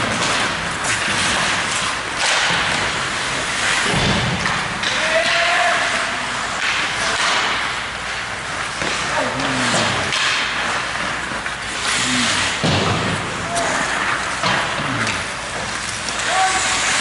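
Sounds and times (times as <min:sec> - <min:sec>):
hockey sticks clattering: 0:00.0 - 0:17.0
skates scraping on ice: 0:00.0 - 0:17.0.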